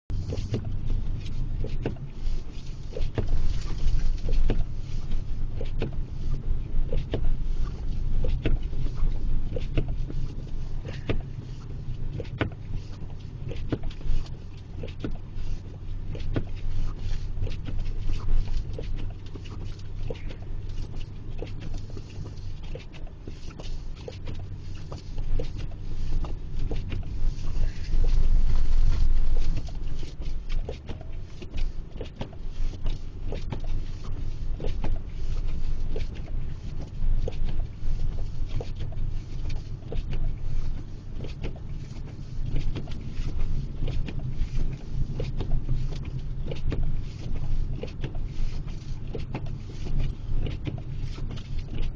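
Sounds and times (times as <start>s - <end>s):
faint steady hum: 0.1s - 51.9s.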